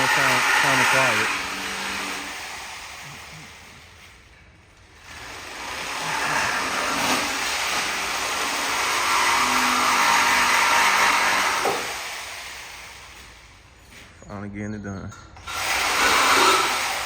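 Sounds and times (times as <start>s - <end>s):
power tool cutting metal pipe: 0.0s - 4.1s, 5.0s - 13.2s, 15.4s - 17.0s.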